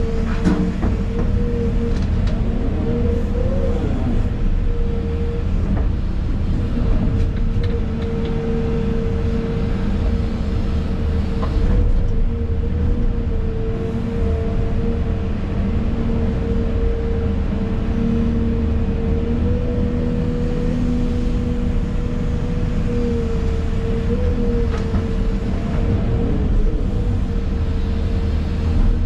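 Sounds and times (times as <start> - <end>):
excavator engine rumble and whine: 0.0 - 29.0.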